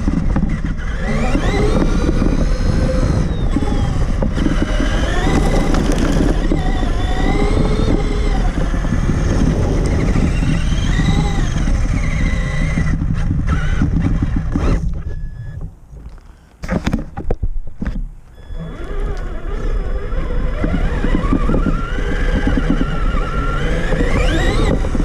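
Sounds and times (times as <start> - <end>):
electric motor whining: 0.0 - 17.0, 17.8 - 25.0
chassis rumbling and rattling: 0.0 - 25.0.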